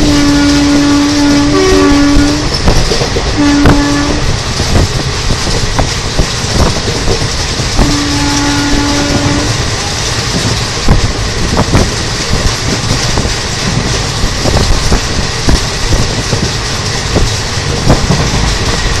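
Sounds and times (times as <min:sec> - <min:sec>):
train rumbling past: 0:00.0 - 0:19.0
train wheels knocking: 0:00.0 - 0:19.0.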